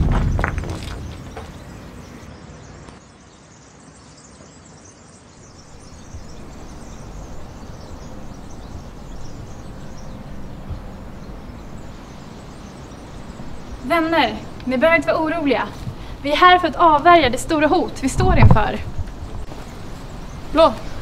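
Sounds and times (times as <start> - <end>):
outdoor ambient hiss: 0.0 - 21.0.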